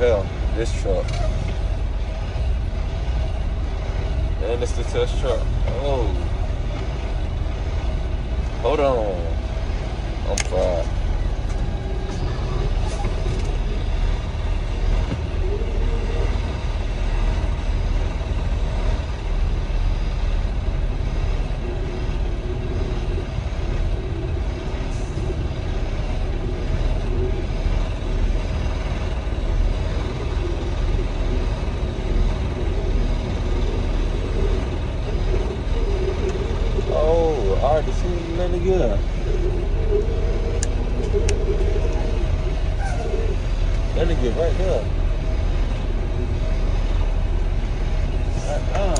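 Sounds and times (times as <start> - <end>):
truck engine low rumble: 0.0 - 48.9.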